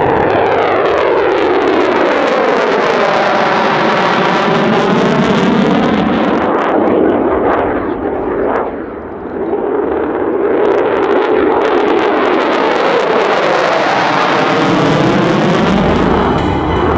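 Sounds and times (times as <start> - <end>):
jet fighter passing overhead: 0.0 - 16.9.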